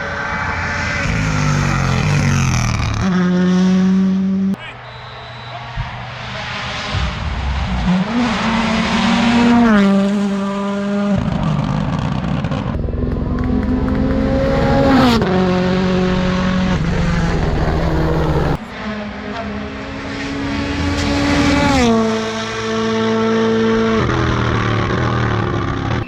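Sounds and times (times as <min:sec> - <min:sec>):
rally car engines accelerating: 0:00.0 - 0:04.6, 0:05.5 - 0:26.0.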